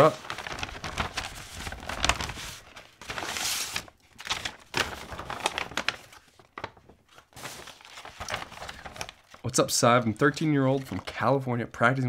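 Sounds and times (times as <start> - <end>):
paper rustling and crinkling: 0.0 - 11.3.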